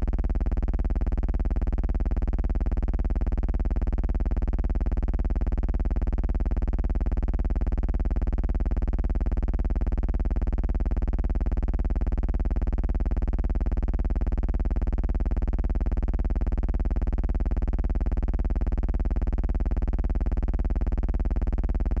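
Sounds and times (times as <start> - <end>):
buzzing hum with rapid ticking: 0.0 - 22.0.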